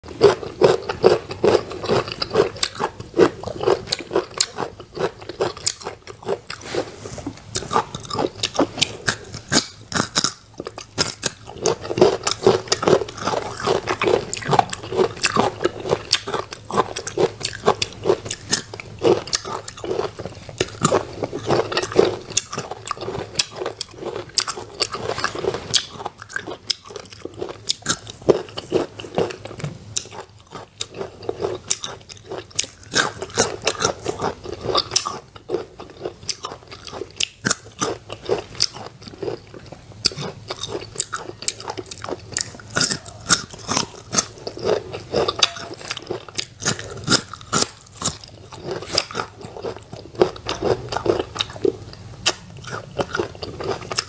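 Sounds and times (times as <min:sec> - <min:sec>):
crunchy biting and chewing: 0:00.0 - 0:54.0.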